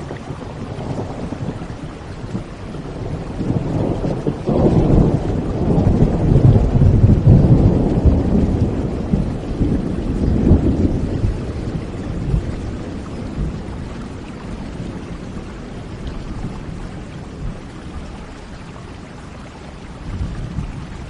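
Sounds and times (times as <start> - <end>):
low thunder rumble: 0.0 - 19.0, 19.9 - 21.0
steady rain: 0.0 - 21.0.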